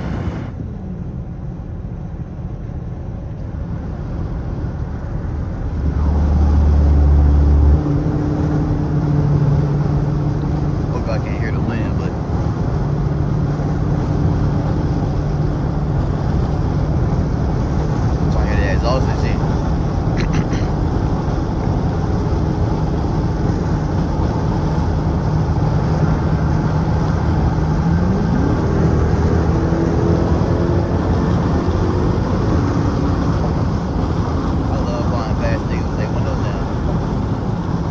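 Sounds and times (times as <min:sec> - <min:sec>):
car exhaust drone: 0:00.0 - 0:37.9.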